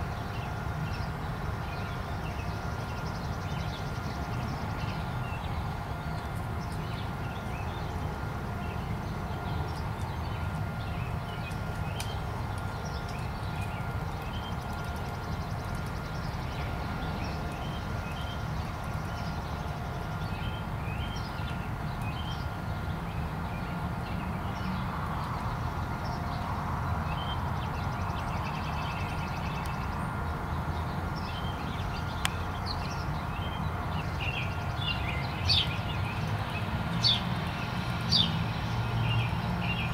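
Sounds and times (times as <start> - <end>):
low outdoor rumble: 0.0 - 39.9.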